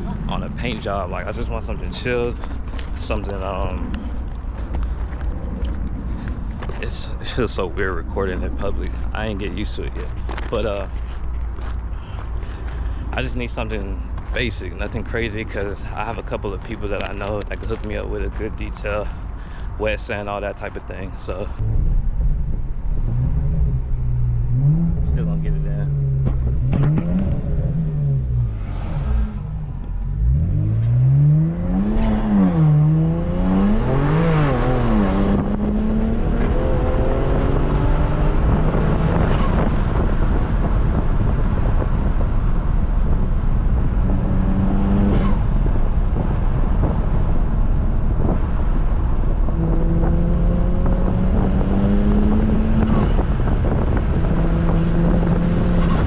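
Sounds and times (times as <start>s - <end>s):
car engine accelerating: 0.0s - 19.0s, 21.3s - 56.0s
road noise: 0.0s - 56.0s.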